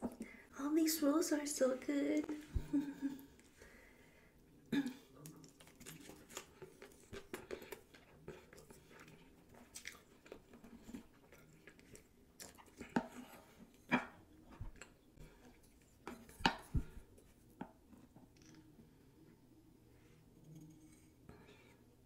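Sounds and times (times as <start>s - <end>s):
soft chewing: 2.2s - 22.0s.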